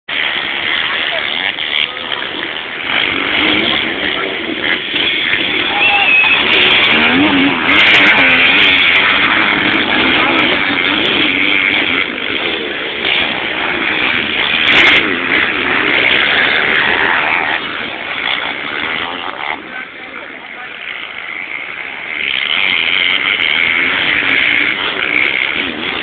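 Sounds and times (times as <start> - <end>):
engine revving: 0.1 - 26.0.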